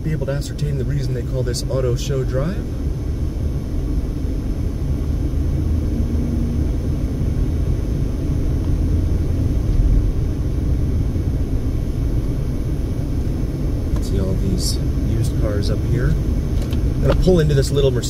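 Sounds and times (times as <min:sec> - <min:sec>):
car interior engine and road rumble: 0:00.0 - 0:18.0.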